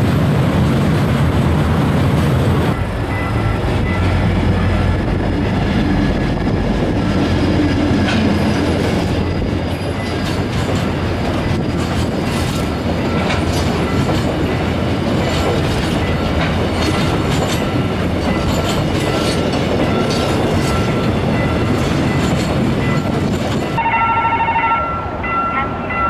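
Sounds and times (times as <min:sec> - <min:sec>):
freight train rumbling past: 0:00.0 - 0:26.0
crossing warning bell ringing: 0:02.7 - 0:05.6, 0:07.5 - 0:26.0.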